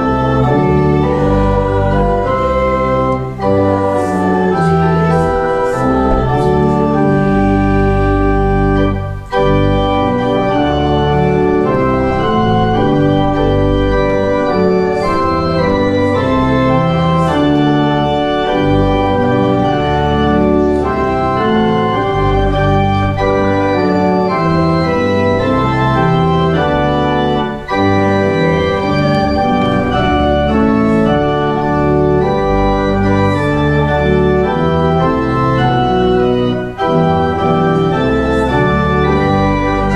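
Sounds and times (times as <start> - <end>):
church organ chords: 0.0 - 39.9.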